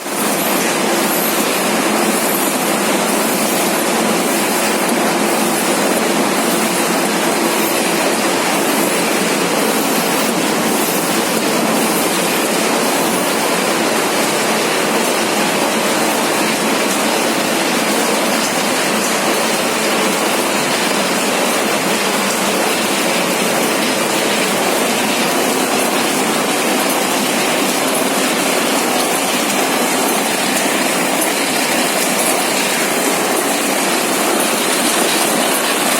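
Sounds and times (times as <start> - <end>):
die-cutting machine running: 0.0 - 35.9.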